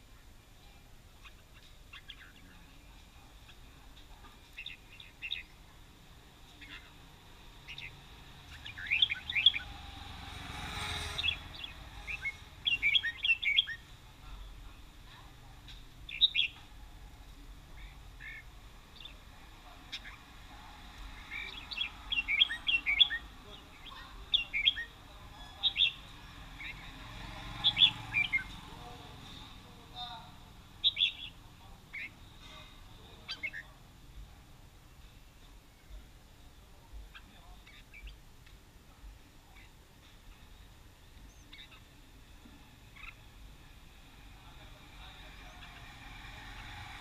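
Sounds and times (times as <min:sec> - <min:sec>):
birds chirping: 0:00.0 - 0:38.3, 0:39.0 - 0:47.0.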